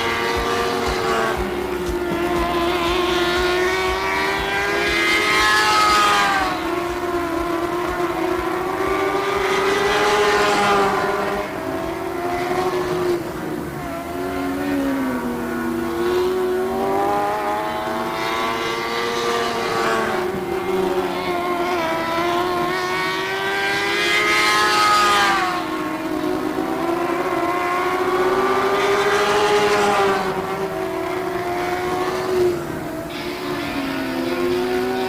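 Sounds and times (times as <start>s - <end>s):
racing car engines: 0.0s - 35.0s.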